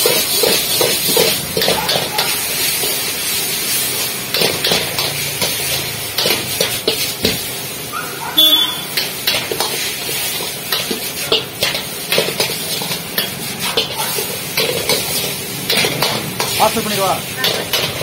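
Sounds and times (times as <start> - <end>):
metal utensils scraping a wok: 0.0 - 7.9, 8.7 - 18.0
noodles sizzling: 0.0 - 18.0.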